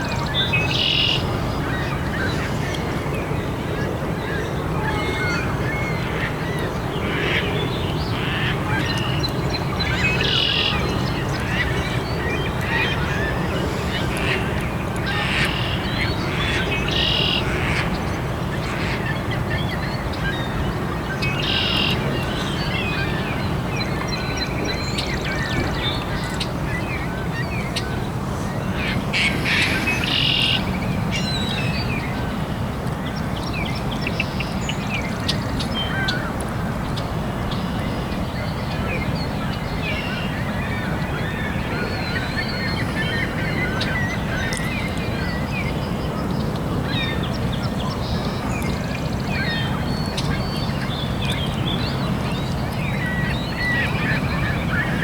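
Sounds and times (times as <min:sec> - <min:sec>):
birds calling and chirping: 0:05.0 - 0:55.0.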